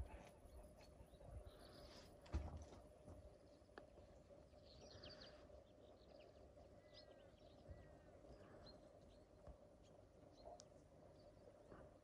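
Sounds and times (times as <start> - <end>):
distant birdsong: 0.0 - 12.0.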